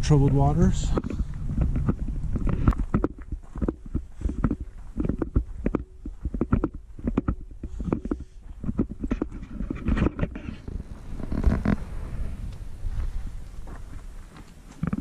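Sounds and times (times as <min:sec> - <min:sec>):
low microphone rumble: 0:00.0 - 0:15.0
footsteps on gravel path: 0:00.1 - 0:15.0.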